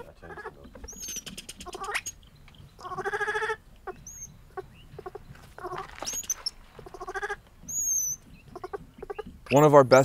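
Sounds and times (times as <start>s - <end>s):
baby monkey crying: 0.0s - 2.2s, 2.8s - 9.5s.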